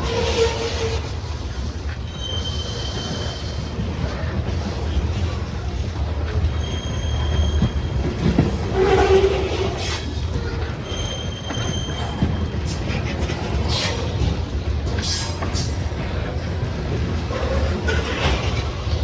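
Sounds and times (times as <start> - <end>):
freight train cars rolling: 0.0 - 19.0
steel wheels squealing on rail: 0.0 - 19.0.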